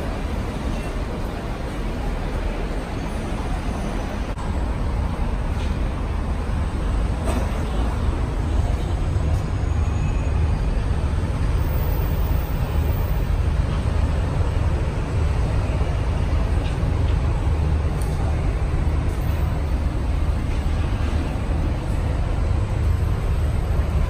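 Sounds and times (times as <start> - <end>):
city background rumble: 0.0 - 24.0.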